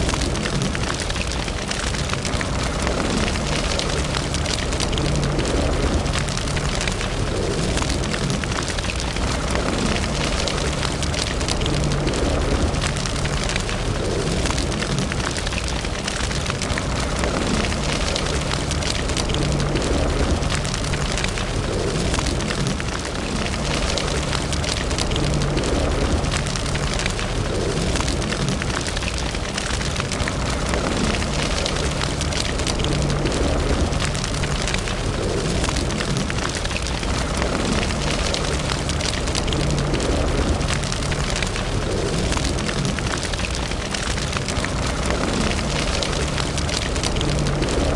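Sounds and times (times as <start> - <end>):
low rumble of fire: 0.0 - 47.9
wood fire crackling and popping: 0.0 - 47.9.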